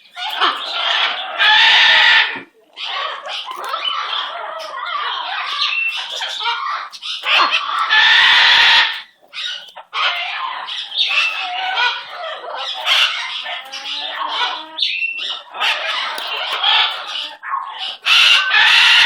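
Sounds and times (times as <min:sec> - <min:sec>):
bird squawking and chattering: 0:00.0 - 0:19.0.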